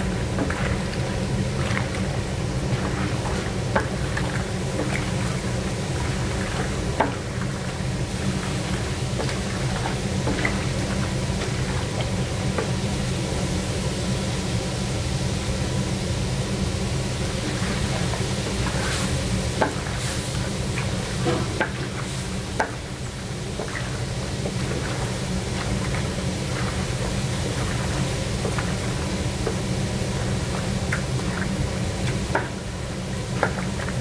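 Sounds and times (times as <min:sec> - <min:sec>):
chicken sizzling: 0:00.0 - 0:15.4, 0:16.2 - 0:34.0.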